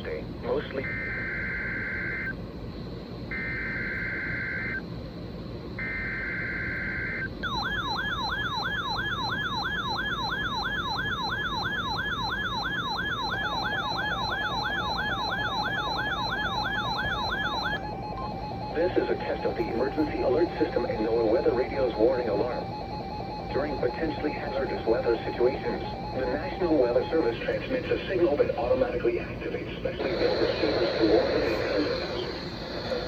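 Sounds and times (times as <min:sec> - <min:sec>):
low pulsing alarm: 0:00.0 - 0:29.5
warbling radio alarm: 0:00.6 - 0:02.4, 0:03.3 - 0:04.9, 0:05.8 - 0:28.8, 0:29.4 - 0:33.0.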